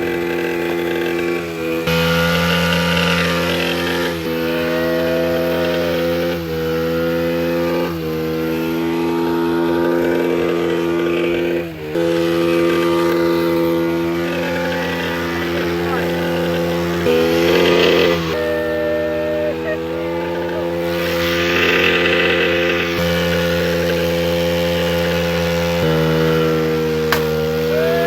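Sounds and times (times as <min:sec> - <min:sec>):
motorcycle engine revving high: 0:00.0 - 0:28.0.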